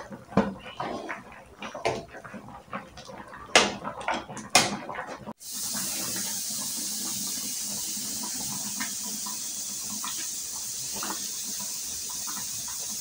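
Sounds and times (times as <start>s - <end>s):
soup boiling in a pan: 0.0s - 13.0s.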